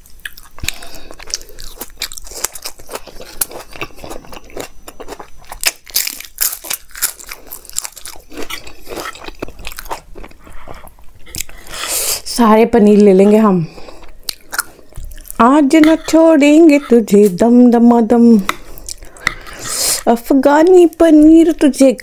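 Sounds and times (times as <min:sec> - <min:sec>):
person chewing food: 0:00.0 - 0:12.3, 0:12.9 - 0:17.5, 0:18.4 - 0:20.0.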